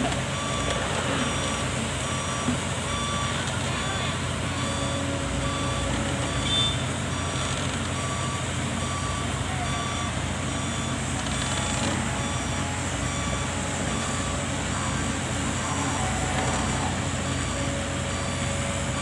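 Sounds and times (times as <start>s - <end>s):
excavator diesel engine running: 0.0s - 19.0s
travel alarm beeping: 0.0s - 19.0s.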